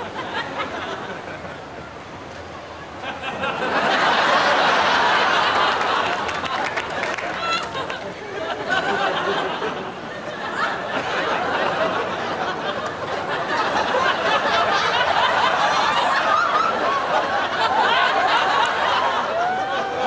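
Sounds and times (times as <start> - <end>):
crowd laughing and chattering: 0.0 - 20.0.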